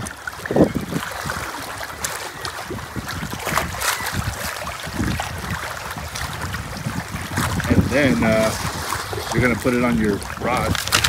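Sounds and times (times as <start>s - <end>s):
water lapping and splashing: 0.0s - 11.0s
wind buffeting microphone: 0.0s - 11.0s.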